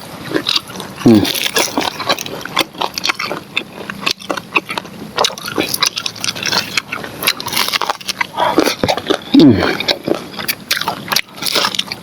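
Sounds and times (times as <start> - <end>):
chewing crunchy corn: 0.0 - 12.0
mouth smacks: 0.3 - 12.0.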